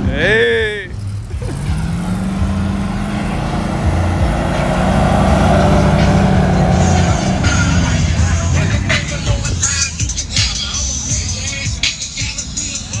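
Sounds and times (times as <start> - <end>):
pickup truck engine rumbling past: 0.0 - 13.0.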